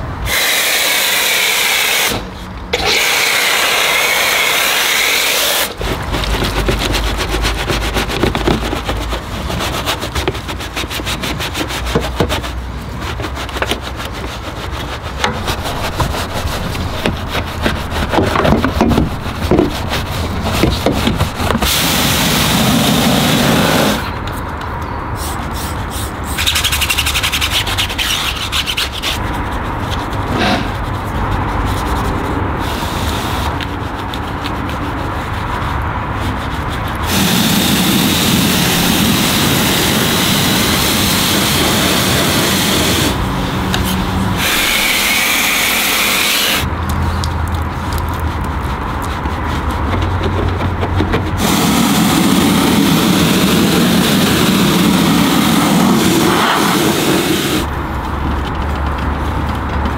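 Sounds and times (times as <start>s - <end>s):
scrubbing car bodywork: 0.3s - 24.1s, 26.2s - 46.7s, 47.4s - 59.9s.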